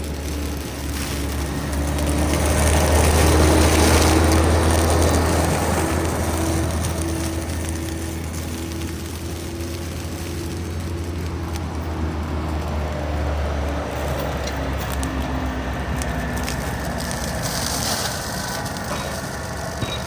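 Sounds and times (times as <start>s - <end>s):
excavator diesel engine running: 0.0s - 20.0s
flail mulcher shredding grass: 0.0s - 20.0s.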